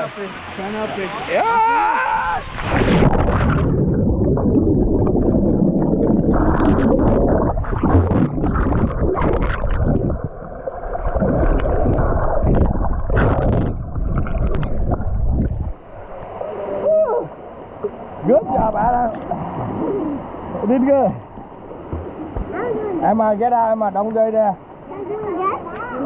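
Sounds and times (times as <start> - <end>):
muffled rushing gurgling water: 0.0 - 26.0
water splashes: 0.0 - 26.0.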